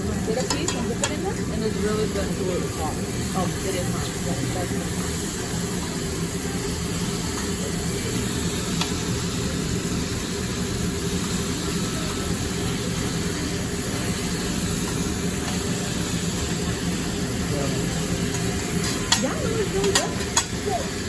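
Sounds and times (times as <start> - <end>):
exhaust hood hissing rush: 0.0 - 21.0.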